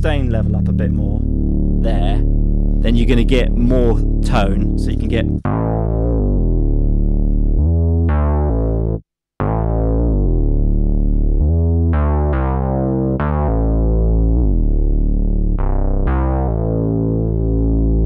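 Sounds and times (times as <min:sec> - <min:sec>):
synth bass notes: 0:00.0 - 0:18.0.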